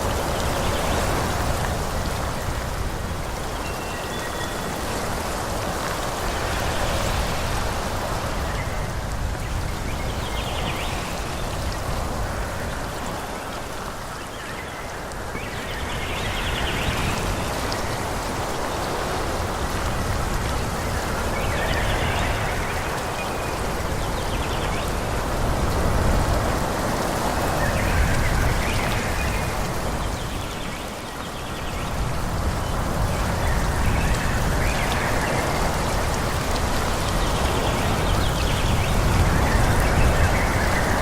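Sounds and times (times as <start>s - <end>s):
wind rushing through trees: 0.0s - 41.0s.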